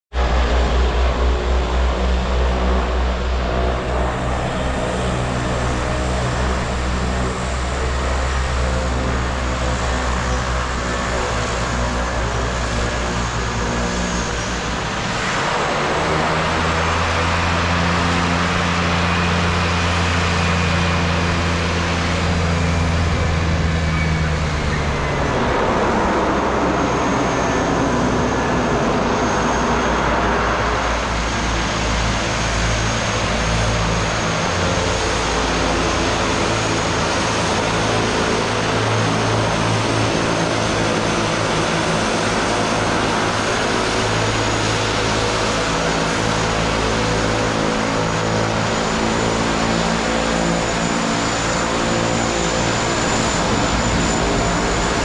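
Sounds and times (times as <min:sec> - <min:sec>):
rushing roar: 0:00.1 - 0:55.0
turboprop engines droning: 0:00.1 - 0:55.0.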